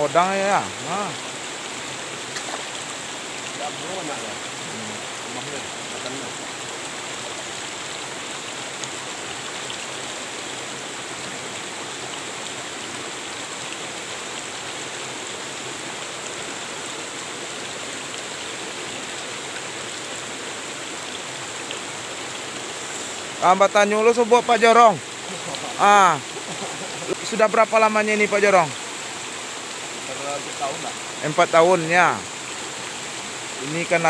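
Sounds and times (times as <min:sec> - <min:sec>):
stream flowing over rocks: 0:00.0 - 0:34.0.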